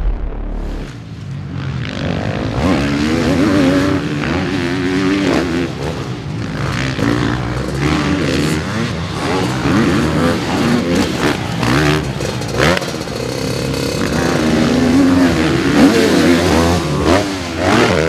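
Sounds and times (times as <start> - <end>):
motocross bike engine revving: 0.9 - 18.0.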